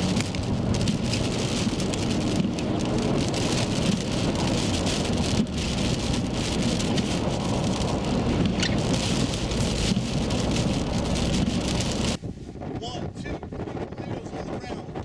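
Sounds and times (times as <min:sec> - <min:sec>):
rain on vehicle windshield: 0:00.0 - 0:12.2
low rumble: 0:00.0 - 0:15.0.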